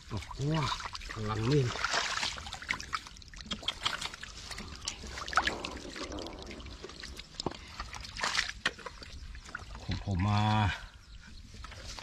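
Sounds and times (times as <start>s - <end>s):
water dripping: 0.0s - 10.3s
hands splashing in muddy water: 0.2s - 10.0s.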